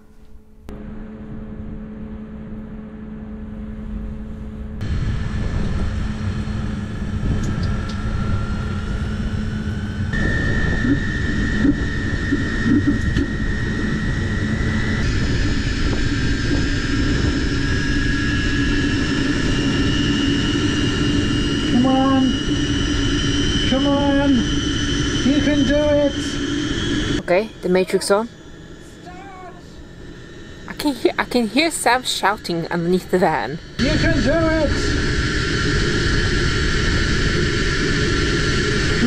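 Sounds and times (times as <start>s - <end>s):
heater fan running: 0.0s - 39.0s
steady hum and rush: 0.0s - 39.0s
whine rising in pitch: 0.0s - 39.0s.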